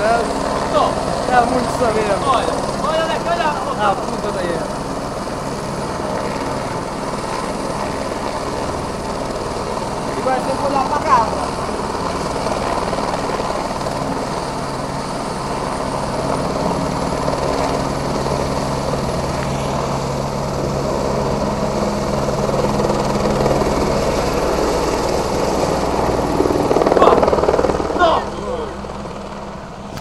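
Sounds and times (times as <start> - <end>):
helicopter rotor beat and turbine: 0.0 - 30.0.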